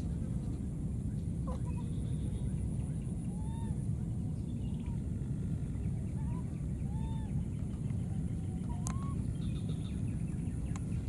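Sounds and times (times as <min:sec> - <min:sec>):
steady low rumble: 0:00.0 - 0:11.0
faint rising-and-falling calls: 0:01.5 - 0:11.0.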